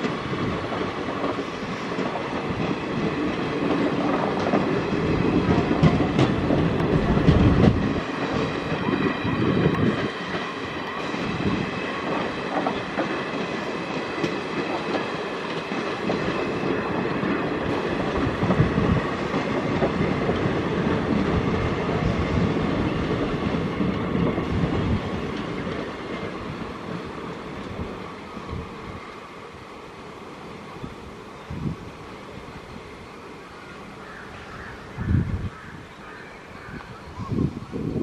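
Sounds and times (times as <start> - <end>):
train wheels rumbling and clattering: 0.0 - 33.0.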